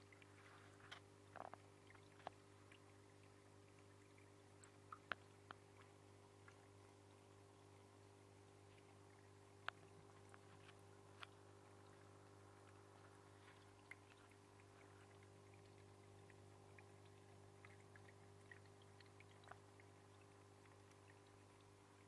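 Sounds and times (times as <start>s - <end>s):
steady low hum: 0.0s - 22.0s
water dripping and trickling: 0.0s - 22.0s.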